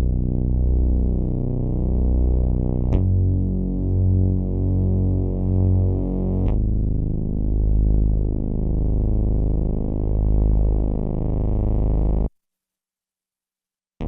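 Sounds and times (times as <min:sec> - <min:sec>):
low synthesizer drone: 0:00.0 - 0:12.3.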